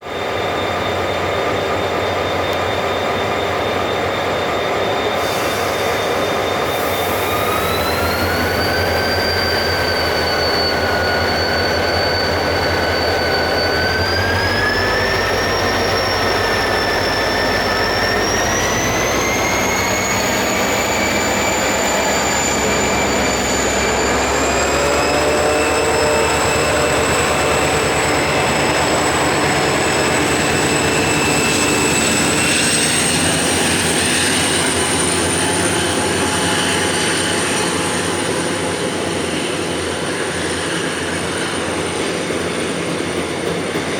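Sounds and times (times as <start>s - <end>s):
train rumbling: 0.0s - 43.9s
train whine rising in pitch: 0.0s - 43.9s.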